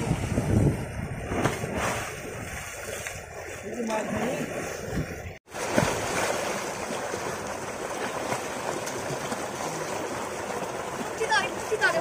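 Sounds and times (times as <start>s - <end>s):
person splashing while swimming: 1.2s - 12.0s.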